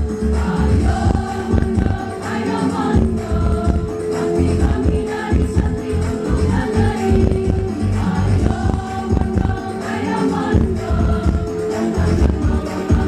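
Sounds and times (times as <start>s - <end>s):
instrumental accompaniment with beat: 0.0s - 13.0s
women's choir singing: 0.1s - 13.0s.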